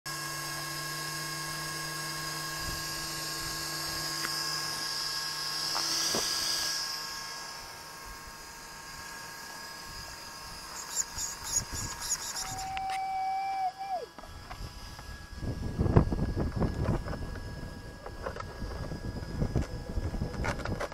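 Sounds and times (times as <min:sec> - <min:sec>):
electric whine of rc buggy: 0:00.1 - 0:20.9.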